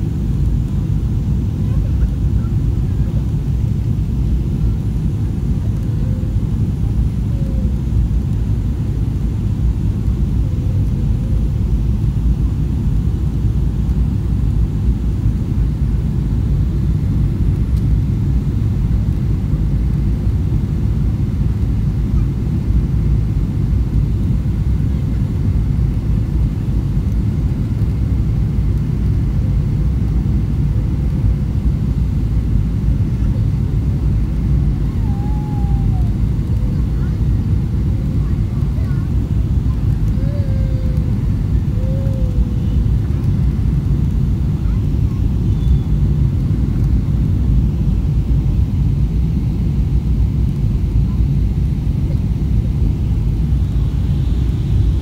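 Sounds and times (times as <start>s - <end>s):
jet engine and airflow rumble: 0.0s - 55.0s.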